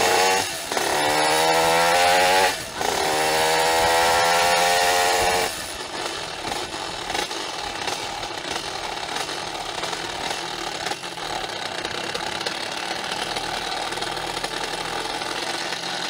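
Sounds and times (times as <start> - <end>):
two-stroke moped engine running: 0.0 - 16.0.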